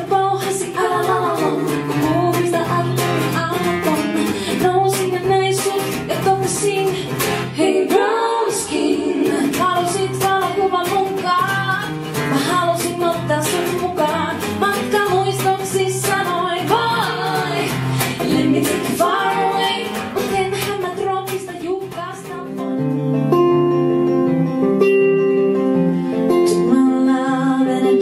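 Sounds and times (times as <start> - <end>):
woman singing into microphone: 0.0 - 22.8, 26.4 - 28.0
strummed acoustic guitar: 0.0 - 28.0.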